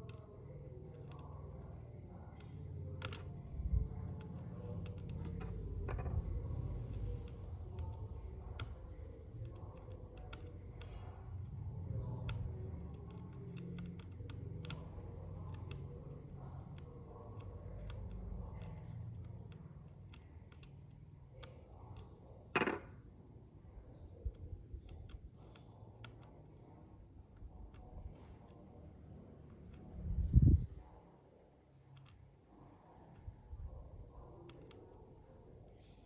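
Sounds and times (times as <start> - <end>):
low room rumble: 0.0 - 36.0.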